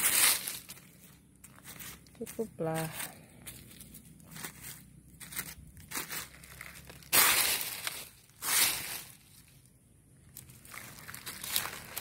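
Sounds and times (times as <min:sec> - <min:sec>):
hand rustling dry leaves: 0:00.0 - 0:12.0.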